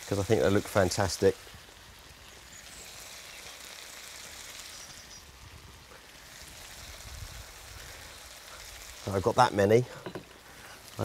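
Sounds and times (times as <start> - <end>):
rice sizzling and bubbling in pan: 0.0 - 11.0.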